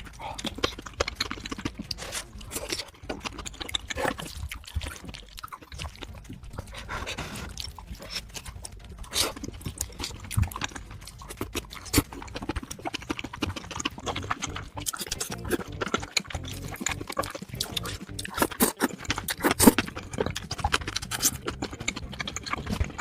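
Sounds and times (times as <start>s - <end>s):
chewing and smacking mouth sounds: 0.0s - 23.0s.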